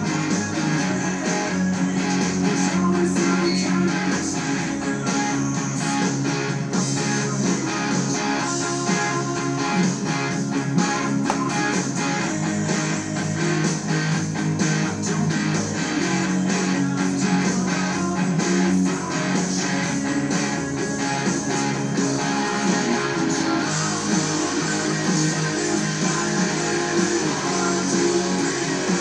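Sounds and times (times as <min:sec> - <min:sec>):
electric guitar strumming rock chords: 0:00.0 - 0:29.0.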